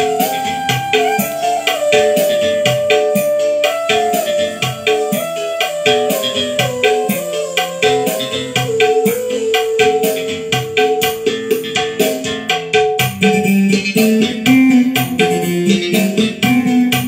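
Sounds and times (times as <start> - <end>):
keyboard melody: 0.0 - 17.0
steady percussion beat: 0.0 - 17.0.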